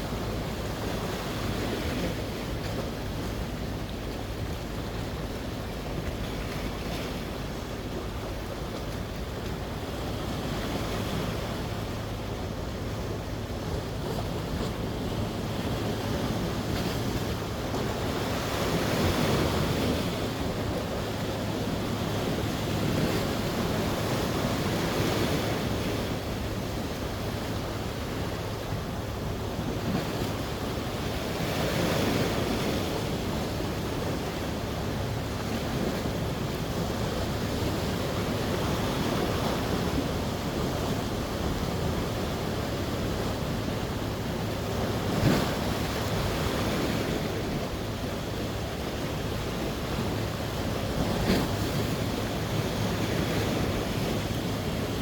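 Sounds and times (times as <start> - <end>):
sea waves breaking: 0.0 - 55.0
wind rumble on microphone: 0.0 - 55.0.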